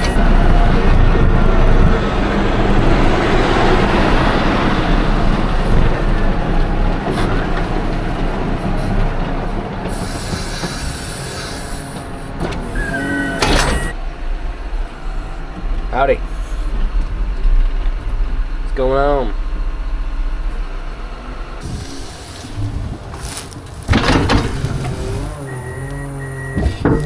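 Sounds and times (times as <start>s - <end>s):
heavy farm machinery running: 0.0s - 18.7s, 19.4s - 27.0s.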